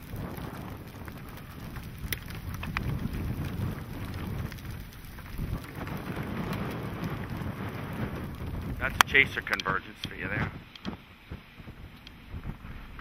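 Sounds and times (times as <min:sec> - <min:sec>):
rain hiss: 0:00.0 - 0:13.0
raindrops tapping: 0:00.0 - 0:13.0
wind rumble: 0:00.0 - 0:13.0.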